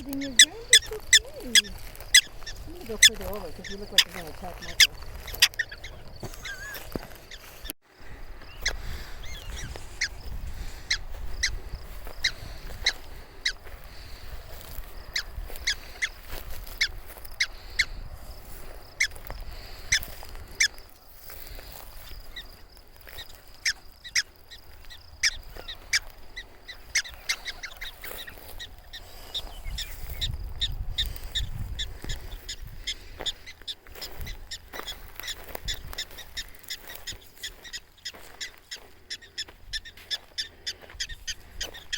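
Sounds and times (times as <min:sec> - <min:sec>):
prairie dogs alarm barks: 0:00.0 - 0:07.5, 0:08.5 - 0:41.9.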